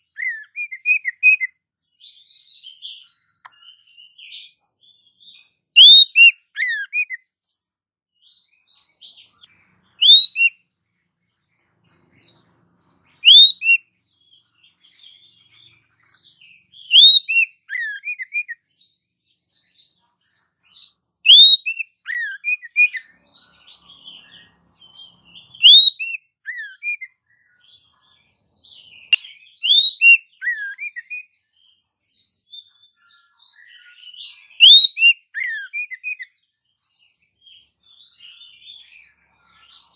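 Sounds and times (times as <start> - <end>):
loud whistled birdsong phrase: 0.0 - 19.9, 20.7 - 39.9
faint bird chirps: 0.0 - 39.9.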